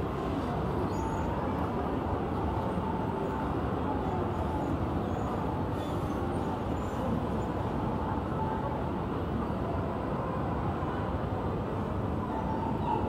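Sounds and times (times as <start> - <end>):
busy public place din: 0.0 - 13.0.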